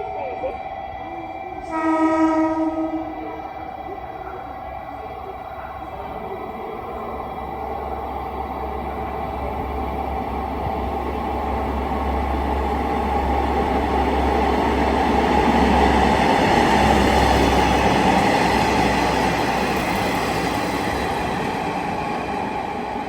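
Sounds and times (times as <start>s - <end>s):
diesel train passing: 0.0s - 23.0s.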